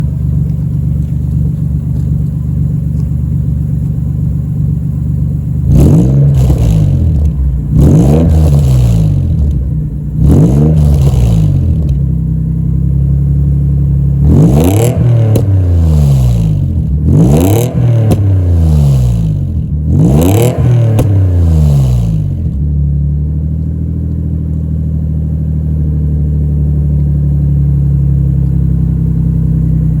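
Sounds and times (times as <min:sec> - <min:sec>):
car exhaust idling and revving: 0:00.0 - 0:30.0.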